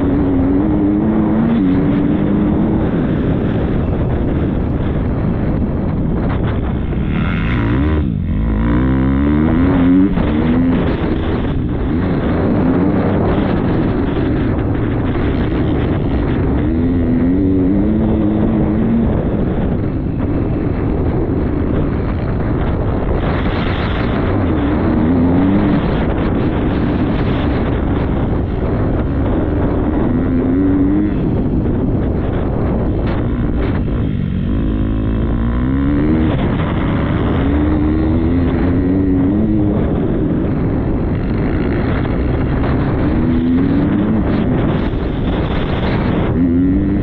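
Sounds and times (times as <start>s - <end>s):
motocross bike engine revving: 0.0s - 5.6s, 6.2s - 20.0s, 22.0s - 47.0s
wind buffeting microphone: 0.0s - 47.0s.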